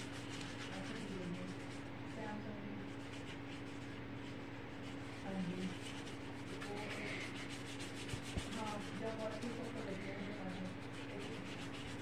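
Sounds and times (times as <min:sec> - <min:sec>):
paintbrush rubbing on paper: 0:00.0 - 0:12.0
steady low hum: 0:00.0 - 0:12.0.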